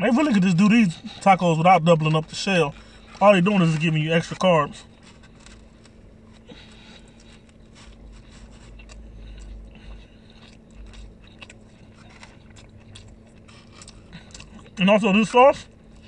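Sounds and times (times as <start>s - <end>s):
person chewing taco: 0.2s - 16.0s.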